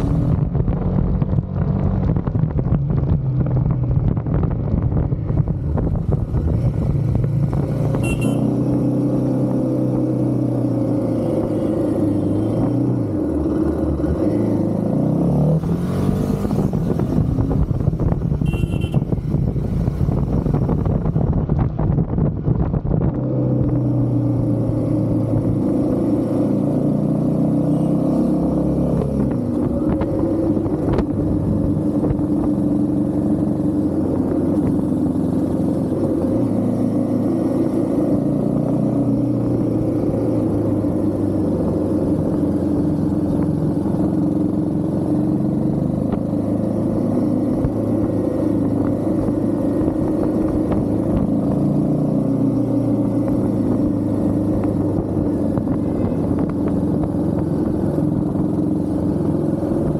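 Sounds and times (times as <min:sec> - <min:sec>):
motorcycle engine running: 0:00.0 - 0:14.9, 0:16.2 - 0:27.9, 0:28.6 - 0:59.9.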